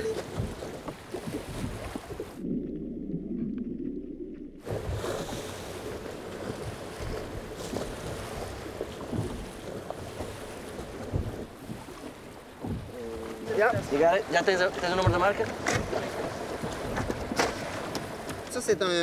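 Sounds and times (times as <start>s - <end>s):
water splashing against hull: 0.0s - 19.0s.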